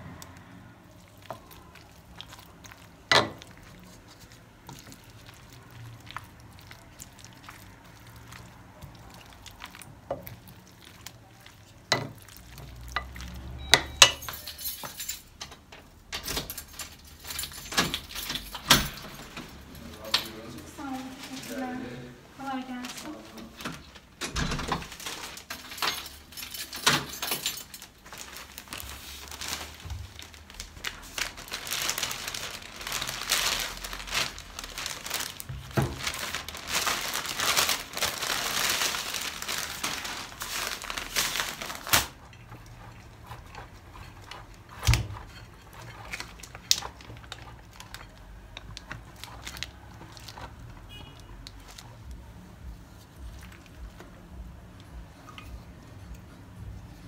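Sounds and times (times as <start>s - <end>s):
plastic bag rustling: 0.0s - 15.3s, 16.4s - 55.8s.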